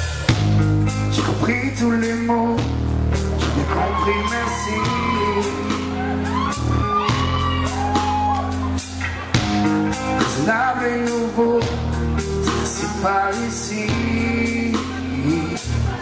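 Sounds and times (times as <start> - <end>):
live rock band playing: 0.0 - 16.0
person singing: 1.1 - 16.0.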